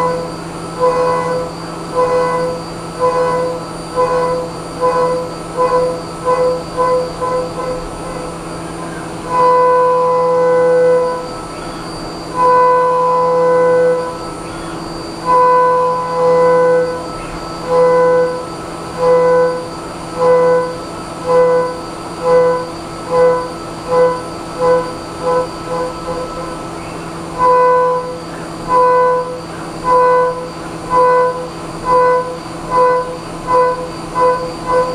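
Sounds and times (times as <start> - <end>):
spindle hum: 0.0 - 34.9.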